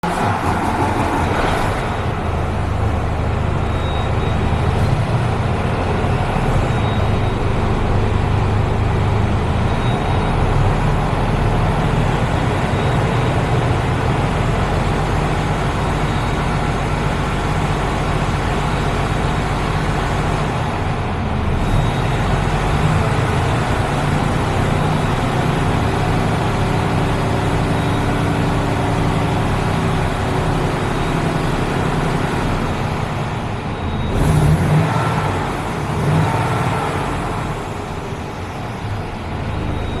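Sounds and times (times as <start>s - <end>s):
diesel engine starting and idling: 0.0s - 40.0s.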